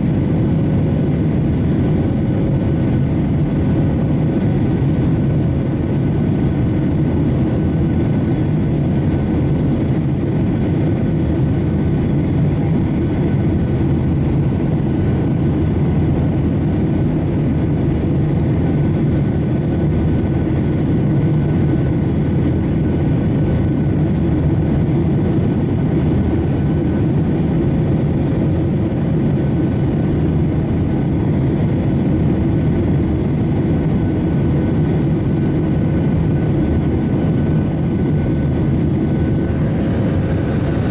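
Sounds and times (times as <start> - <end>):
jet airliner engine drone: 0.0 - 40.9.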